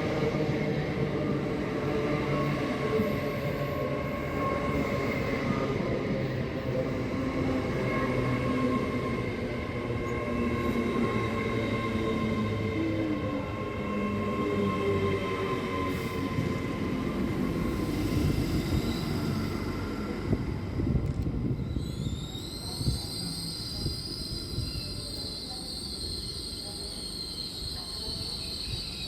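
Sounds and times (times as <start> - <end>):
train rumbling: 0.0 - 25.2.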